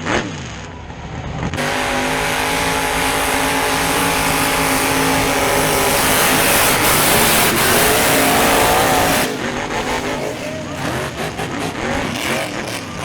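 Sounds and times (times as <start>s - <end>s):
truck engine revving high: 1.6s - 13.0s.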